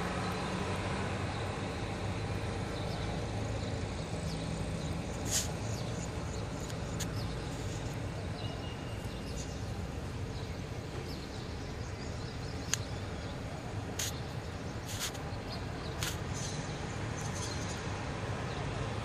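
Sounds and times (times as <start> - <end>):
distant traffic hum: 0.0 - 19.0.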